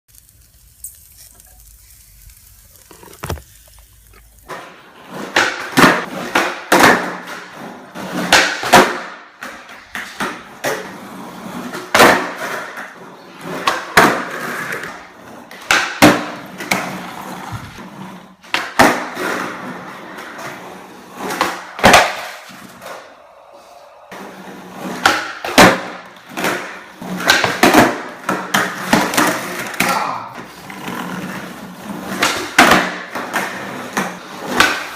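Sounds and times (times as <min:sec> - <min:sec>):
skateboard rolling: 0:02.2 - 0:29.8, 0:30.4 - 0:34.9
skateboard clacks: 0:04.4 - 0:23.1, 0:24.1 - 0:34.9.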